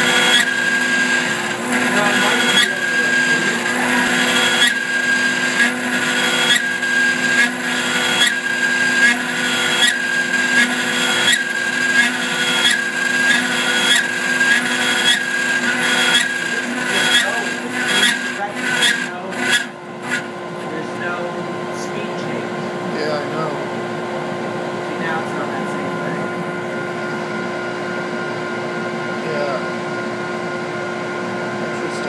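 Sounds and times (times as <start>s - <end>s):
end mill cutting wood: 0.0s - 28.5s
cnc router spindle whine: 0.0s - 32.0s.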